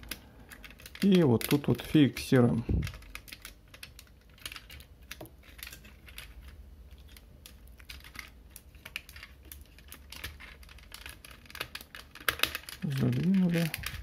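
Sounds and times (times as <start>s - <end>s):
plastic toy parts clicking: 0.0s - 14.0s.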